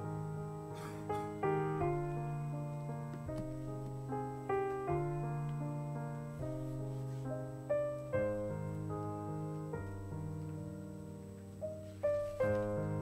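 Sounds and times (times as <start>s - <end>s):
slow gentle piano chords: 0.0s - 13.0s.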